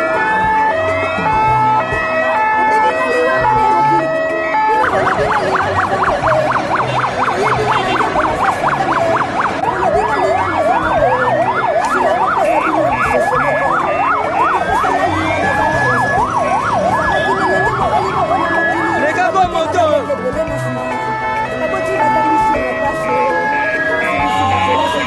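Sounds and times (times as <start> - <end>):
electronic sirens yelping: 0.0 - 25.0
slow siren sweep: 0.0 - 25.0.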